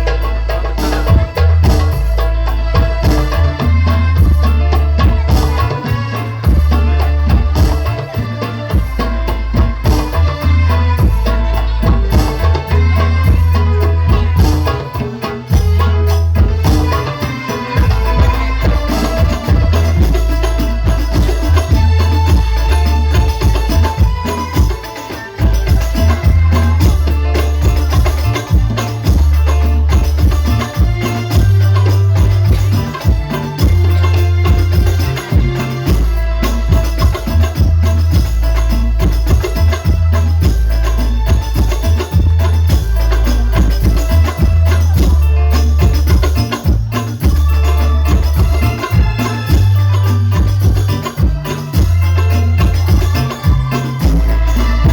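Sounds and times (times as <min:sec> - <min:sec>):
heavy booming bass: 0:00.0 - 0:17.1, 0:17.8 - 0:24.8, 0:25.4 - 0:54.9
hand drums beating: 0:00.0 - 0:54.9
held melodic tones: 0:00.0 - 0:54.9.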